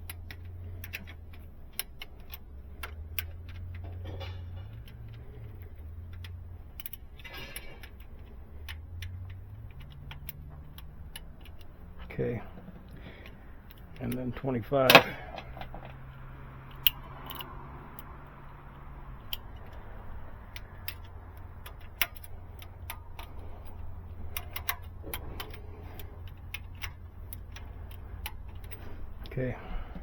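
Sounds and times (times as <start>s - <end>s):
socket wrench clicking: 0.0s - 12.0s, 12.7s - 14.2s, 14.9s - 30.0s
steady low hum: 0.0s - 30.0s.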